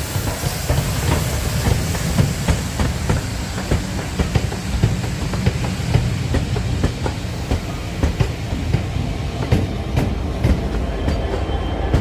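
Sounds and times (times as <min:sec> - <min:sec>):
train rumbling past: 0:00.0 - 0:12.0
train wheels clicking over rail joints: 0:00.0 - 0:12.0.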